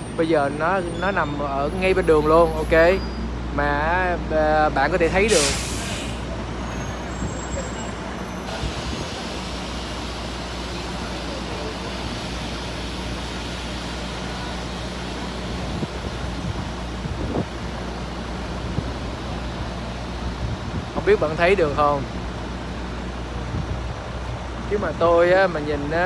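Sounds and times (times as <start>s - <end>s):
bus engine idling: 0.0s - 26.0s
road traffic noise: 0.0s - 26.0s.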